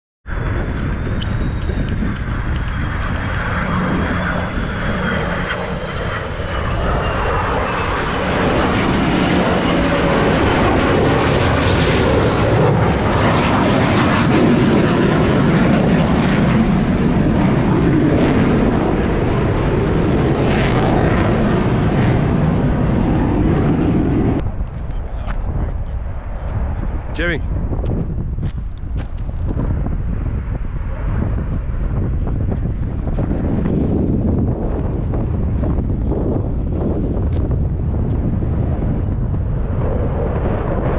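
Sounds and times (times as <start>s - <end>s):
aircraft engine noise overhead: 0.3s - 40.9s.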